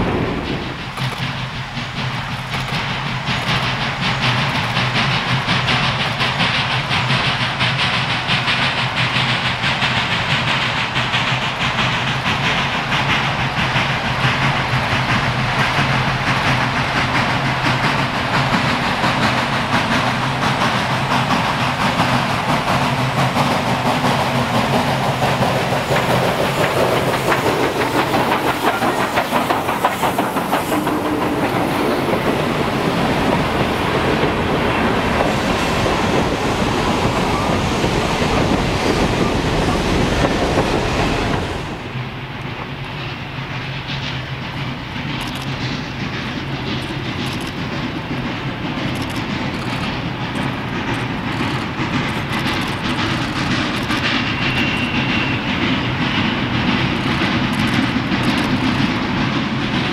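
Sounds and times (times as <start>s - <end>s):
steam train rolling past: 0.0s - 59.9s
wheels clacking over rail joints: 0.0s - 59.9s.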